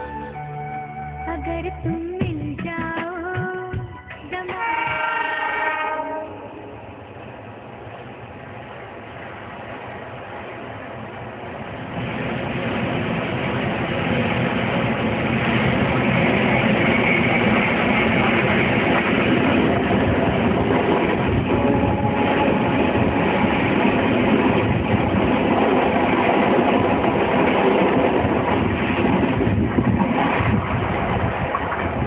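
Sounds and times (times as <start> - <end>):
train rumbling past: 3.8 - 32.0.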